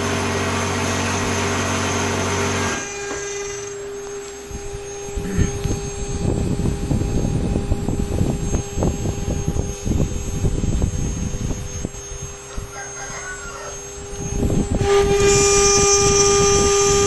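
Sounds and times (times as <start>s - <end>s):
end mill cutting metal: 0.0s - 17.0s
router spindle high whine: 0.0s - 17.0s.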